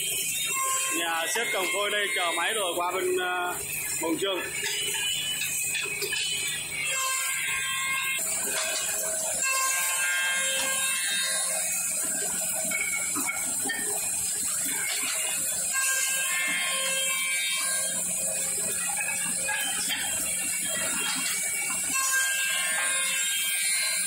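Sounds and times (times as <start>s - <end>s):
woodworking machine running: 0.0s - 24.0s.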